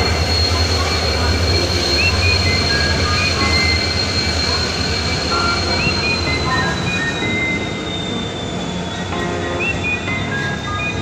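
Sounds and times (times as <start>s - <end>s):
high steady squeal: 0.0s - 11.0s
train rumbling: 0.0s - 11.0s.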